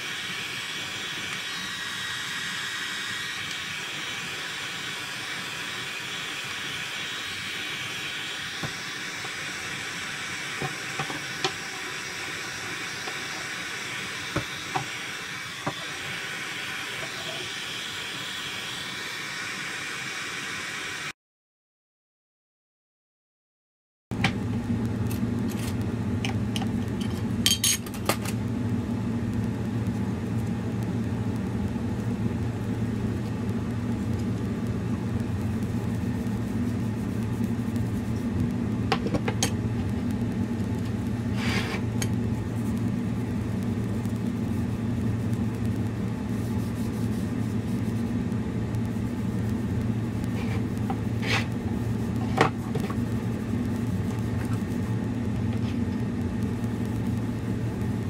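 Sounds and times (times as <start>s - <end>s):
low mechanical hum: 0.0s - 21.2s, 24.1s - 58.0s.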